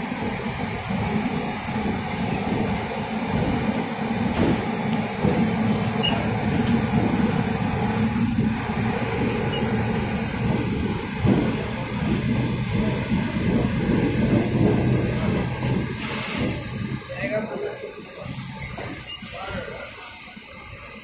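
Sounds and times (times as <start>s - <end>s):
train rumbling and rattling: 0.0s - 21.0s.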